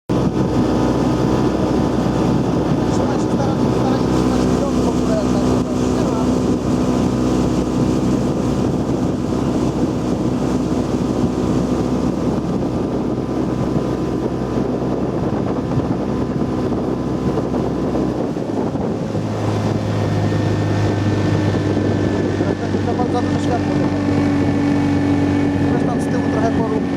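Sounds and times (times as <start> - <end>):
speedboat motor running: 0.1 - 26.9
water noise: 0.1 - 26.9
wind buffeting microphone: 0.1 - 26.9.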